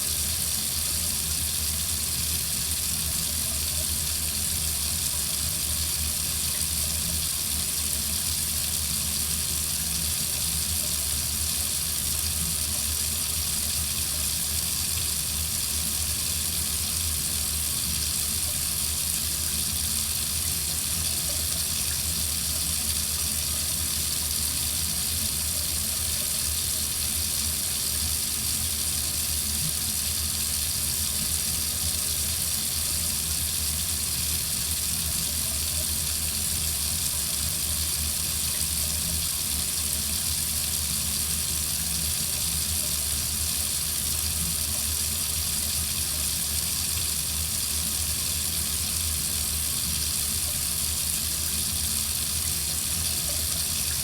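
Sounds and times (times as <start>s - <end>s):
faucet running into sink: 0.0s - 54.0s.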